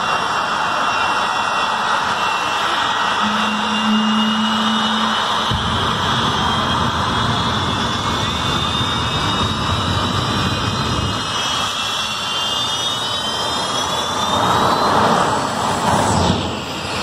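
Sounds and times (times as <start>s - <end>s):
jet engine roaring and whining: 0.0s - 17.0s.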